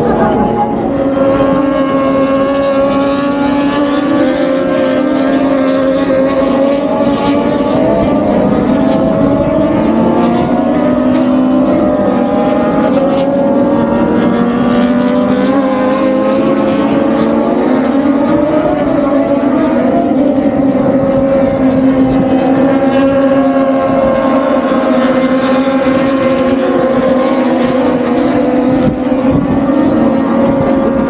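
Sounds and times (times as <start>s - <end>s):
engine drone: 0.0s - 31.0s.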